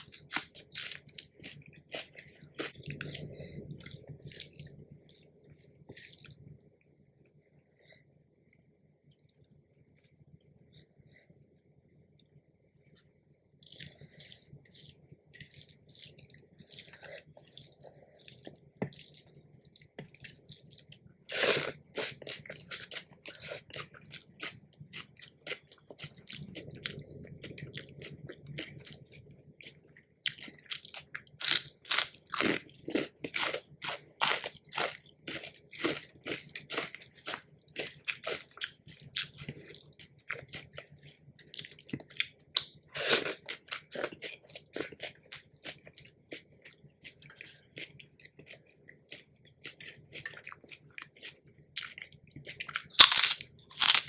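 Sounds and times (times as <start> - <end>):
person chewing crunchy food: 0.0 - 6.4, 13.6 - 54.0.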